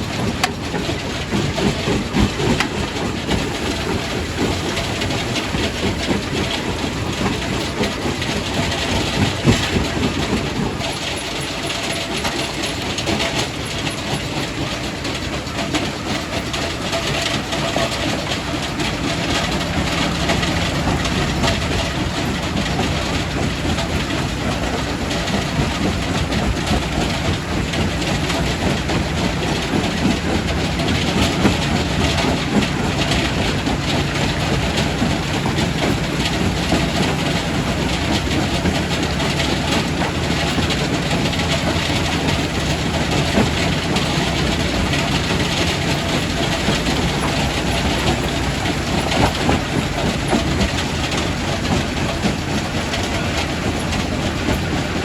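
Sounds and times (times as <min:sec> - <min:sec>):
rock crusher rumbling: 0:00.0 - 0:55.0.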